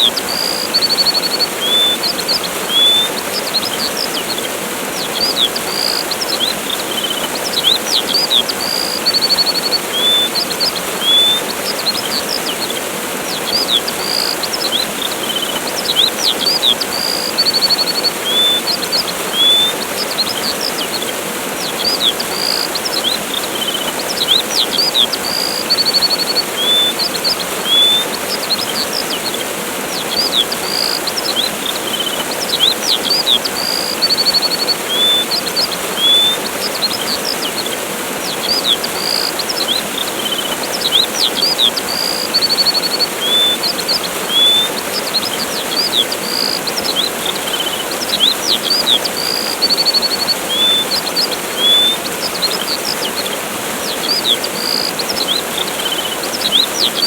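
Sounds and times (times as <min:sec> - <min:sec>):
bird chirps and trills: 0:00.0 - 0:57.0
waterfall rushing: 0:00.0 - 0:57.0.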